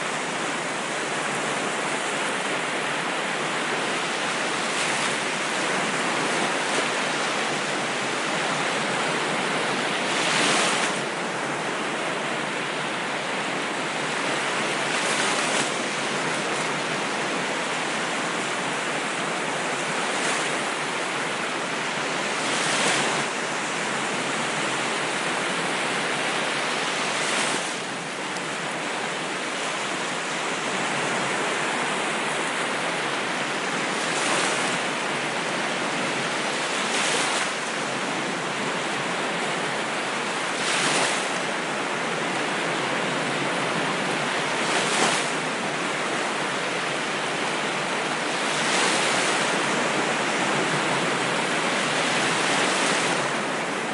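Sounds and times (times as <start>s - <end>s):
ocean waves washing in: 0.0s - 53.9s.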